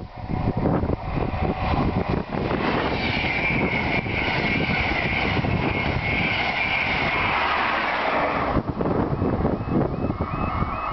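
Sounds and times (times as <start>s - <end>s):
high whine: 0.0s - 10.9s
train passing at speed: 0.0s - 10.9s.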